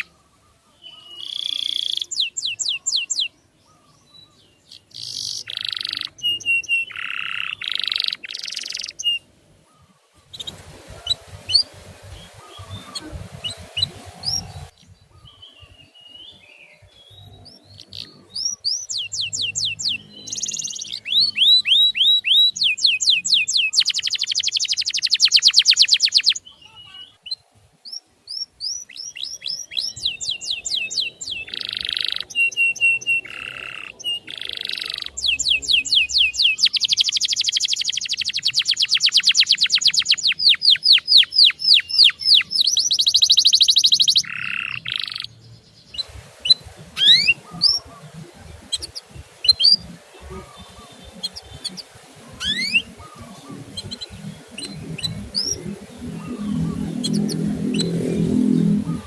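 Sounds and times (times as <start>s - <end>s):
low background noise: 0.0s - 59.0s
canary chirping and trilling: 0.8s - 9.3s, 10.1s - 59.0s.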